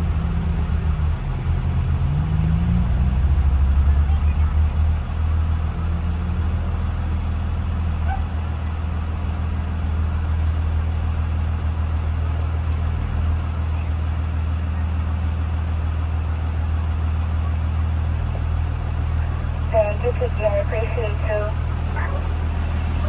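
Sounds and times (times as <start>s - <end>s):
bus engine humming: 0.0s - 23.0s.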